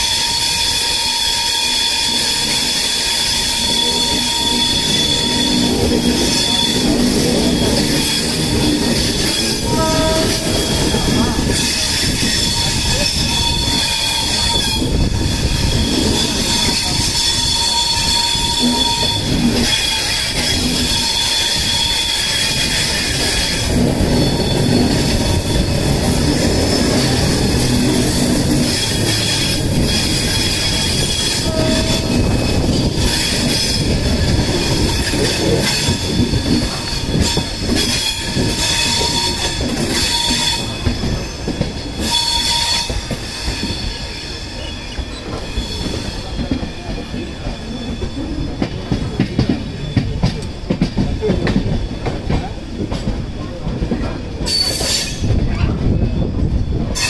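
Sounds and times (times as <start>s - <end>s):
steel wheels squealing: 0.0s - 57.0s
train wheels rumbling on track: 0.0s - 57.0s.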